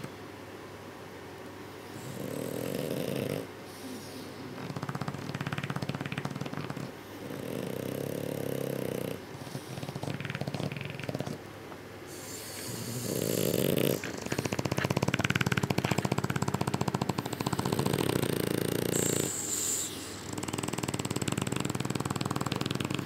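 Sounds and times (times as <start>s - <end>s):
dogs snoring: 1.9s - 11.5s, 12.1s - 23.0s.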